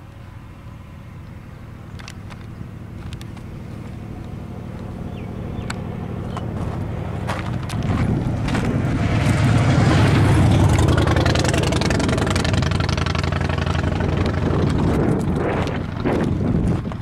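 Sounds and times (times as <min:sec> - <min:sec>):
road vehicle driving past: 0:00.0 - 0:17.0.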